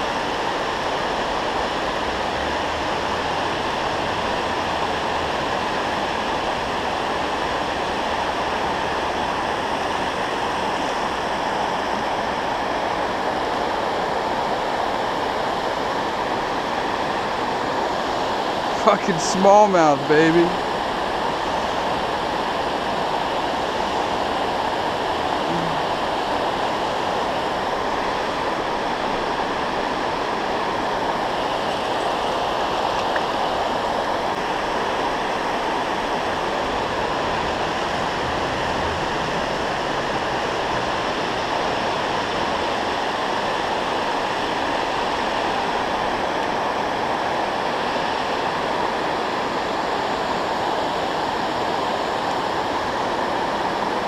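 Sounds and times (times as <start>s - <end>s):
river water roaring over dam: 0.0s - 54.0s.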